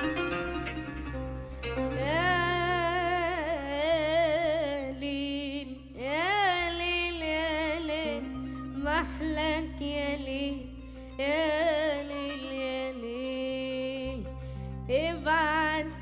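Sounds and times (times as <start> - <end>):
low musical accompaniment: 0.0 - 16.0.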